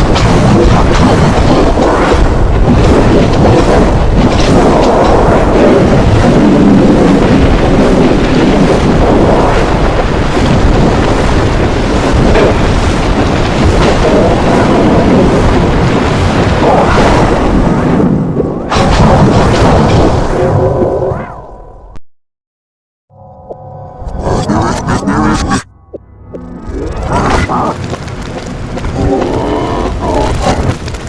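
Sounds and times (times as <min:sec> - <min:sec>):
loud rumbling and booming: 0:00.0 - 0:21.7, 0:24.1 - 0:31.0.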